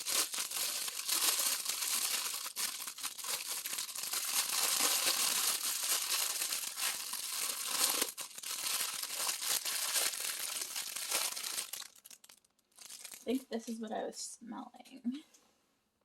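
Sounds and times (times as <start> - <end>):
paper bag crinkling: 0.0 - 13.4.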